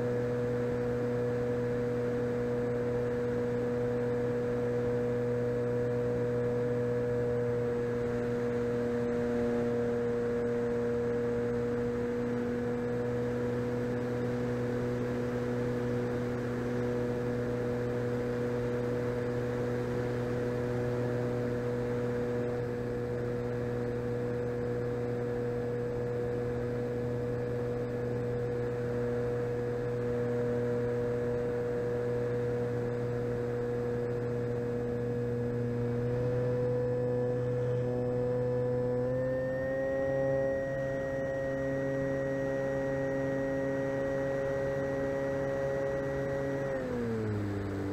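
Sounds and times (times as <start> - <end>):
model plane motor droning whine: 0.0 - 47.9.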